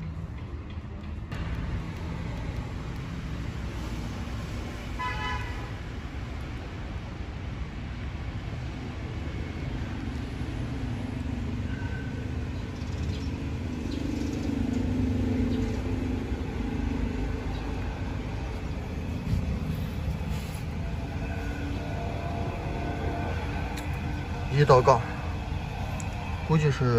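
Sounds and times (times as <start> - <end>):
traffic rumble: 0.0 - 26.9
vehicle engine hum: 0.0 - 26.9.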